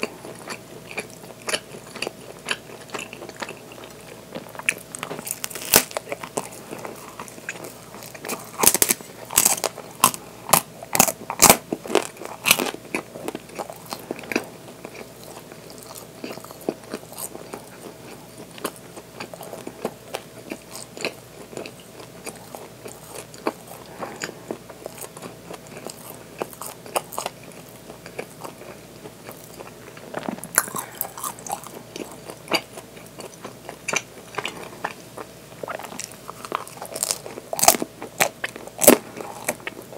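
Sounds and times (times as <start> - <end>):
crunching flaky pastry: 0.0 - 39.9
soft chewing: 0.0 - 39.9.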